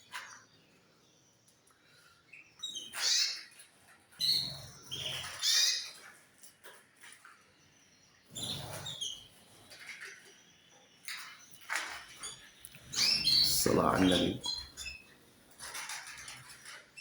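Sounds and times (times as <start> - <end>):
canaries chirping: 0.0 - 17.0.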